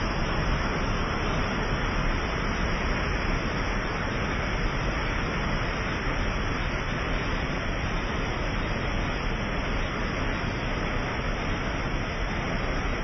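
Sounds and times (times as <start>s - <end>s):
water rushing down spillway: 0.0s - 13.0s.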